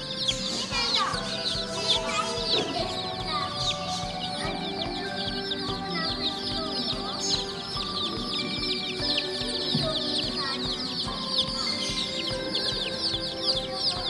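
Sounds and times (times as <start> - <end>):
baby chicks peeping: 0.0 - 14.0
background music: 0.0 - 14.0.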